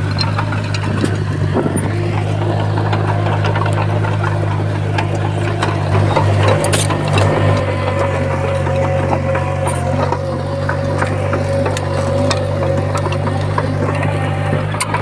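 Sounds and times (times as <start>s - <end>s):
bulldozer diesel engine running: 0.0s - 15.0s
metallic clicks and clanks: 0.0s - 15.0s.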